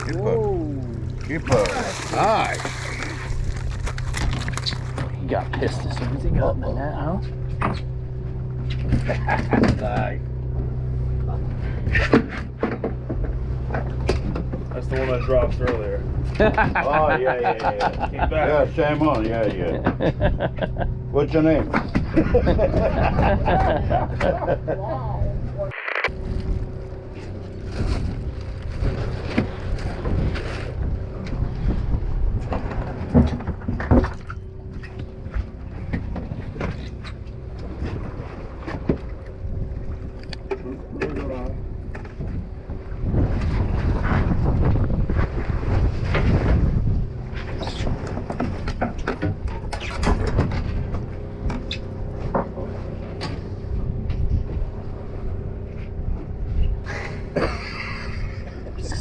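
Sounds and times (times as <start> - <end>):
boat engine rumbling: 0.0 - 59.0.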